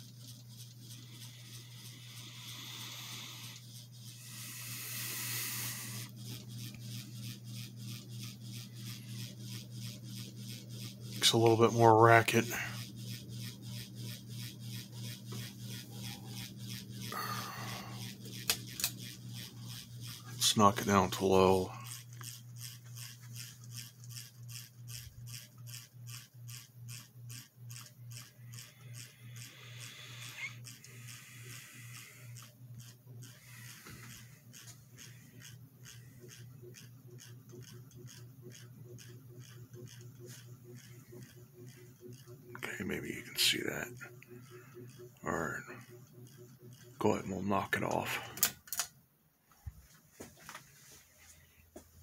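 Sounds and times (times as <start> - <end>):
rhythmic rubbing scrape: 0.0 - 48.2
fan rasping tick: 0.0 - 49.0
ceiling fan motor hum: 0.0 - 52.0.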